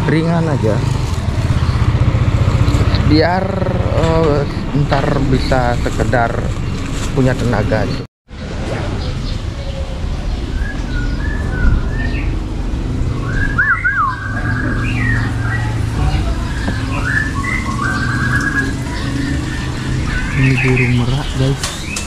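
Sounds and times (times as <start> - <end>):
cage birds chirping and trilling: 0.0 - 22.0.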